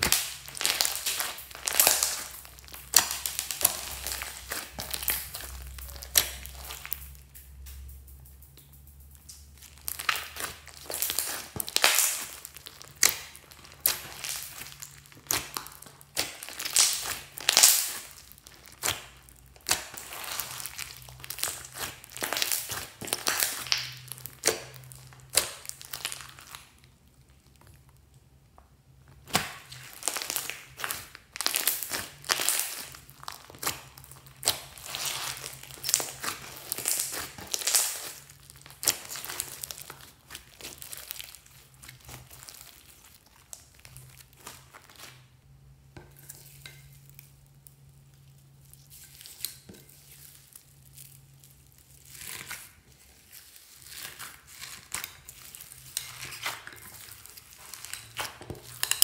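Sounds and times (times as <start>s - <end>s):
slime crackling and popping: 0.0s - 7.9s, 8.7s - 59.0s.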